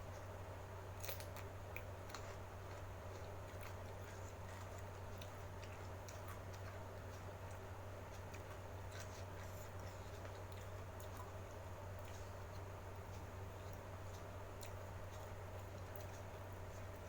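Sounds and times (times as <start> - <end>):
chewing: 1.0 - 17.0.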